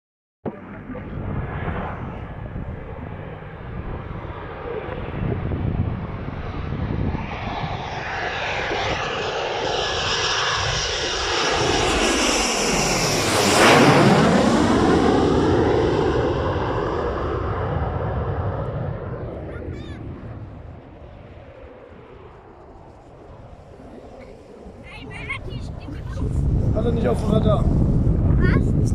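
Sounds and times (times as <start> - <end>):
jet flying past: 0.5 - 28.9.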